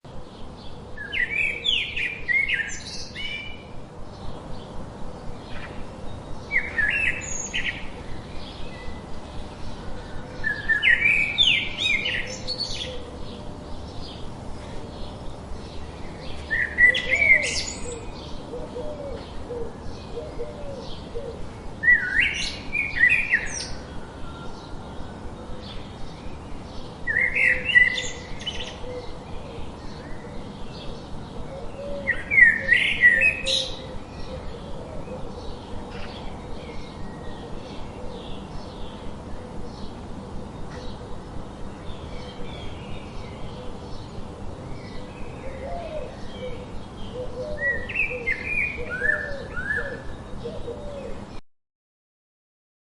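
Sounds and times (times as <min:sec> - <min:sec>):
faint outdoor hiss: 0:00.1 - 0:51.4
songbird chirping: 0:00.1 - 0:51.4.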